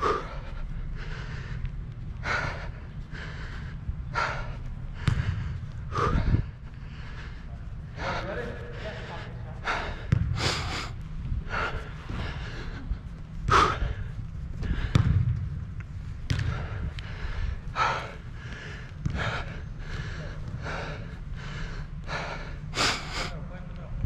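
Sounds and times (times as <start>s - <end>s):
person breathing hard: 0.0s - 23.4s.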